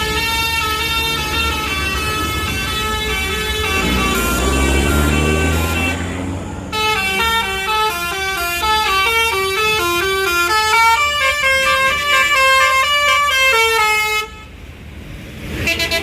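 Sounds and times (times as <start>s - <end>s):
multi-tone air horn tune: 0.0s - 6.1s, 6.7s - 14.5s, 15.6s - 16.0s
bus engine rumble: 0.0s - 16.0s.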